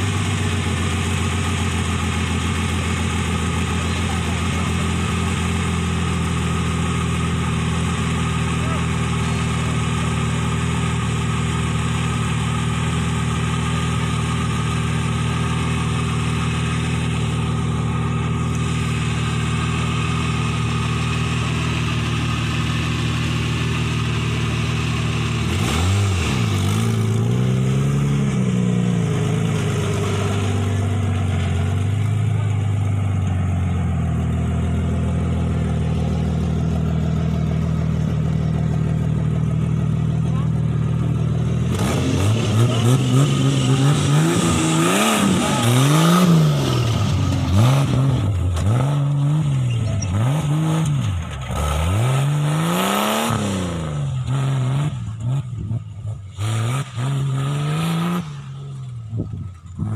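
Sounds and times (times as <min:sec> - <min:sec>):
engine idling and revving: 0:00.0 - 0:59.9.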